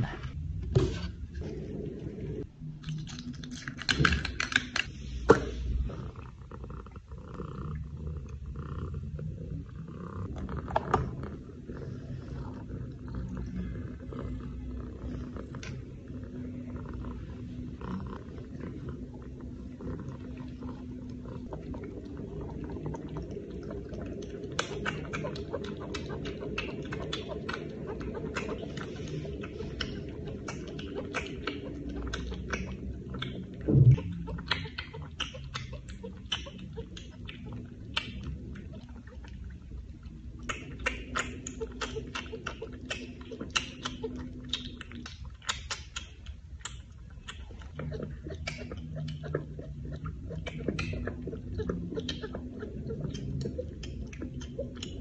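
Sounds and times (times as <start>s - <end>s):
steady low rumble: 0.0s - 3.8s, 4.9s - 45.6s, 46.2s - 55.0s.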